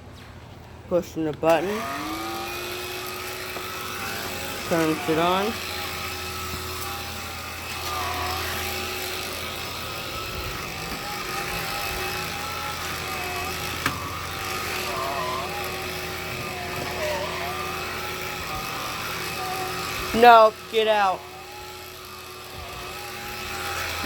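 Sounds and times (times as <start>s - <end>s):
vacuum cleaner motor whine: 1.4s - 24.0s.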